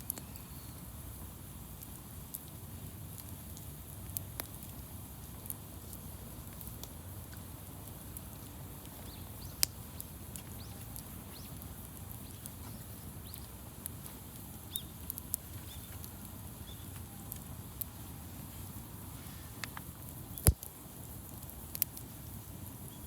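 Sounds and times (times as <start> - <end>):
wood campfire crackling: 0.0 - 23.0.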